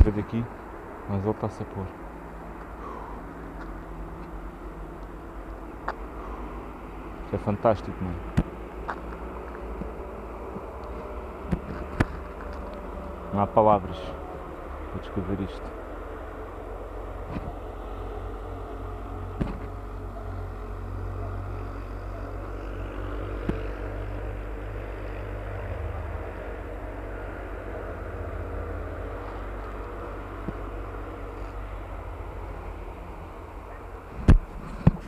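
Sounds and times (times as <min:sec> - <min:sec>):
distant motor vehicles humming: 0:00.0 - 0:35.0.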